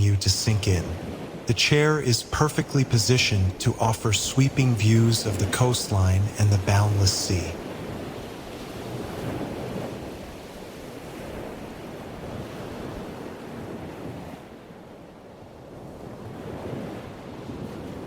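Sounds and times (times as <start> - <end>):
ocean waves washing on shore: 0.0 - 18.0
wind: 0.0 - 18.0.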